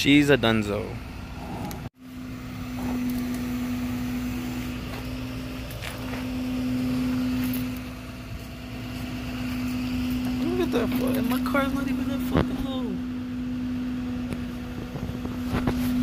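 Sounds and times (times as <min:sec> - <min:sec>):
winch humming: 0:00.1 - 0:16.0.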